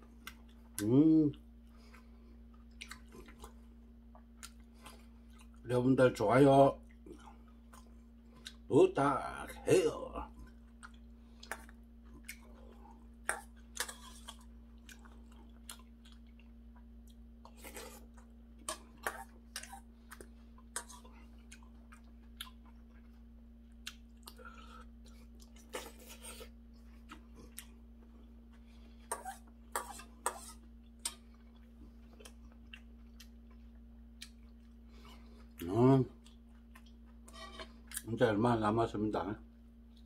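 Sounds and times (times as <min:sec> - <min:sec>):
wet chewing and mouth noises: 0:00.0 - 0:05.7, 0:06.7 - 0:08.7, 0:10.2 - 0:38.1
faint electrical hum: 0:00.0 - 0:40.0.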